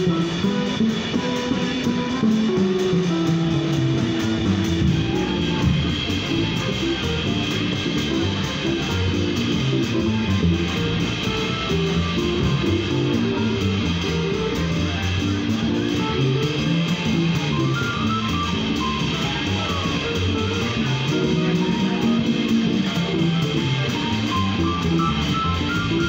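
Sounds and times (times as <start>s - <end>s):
drum kit with cymbals: 0.0s - 26.0s
electric keyboard comping: 0.0s - 26.0s
upright double bass walking: 0.0s - 26.0s.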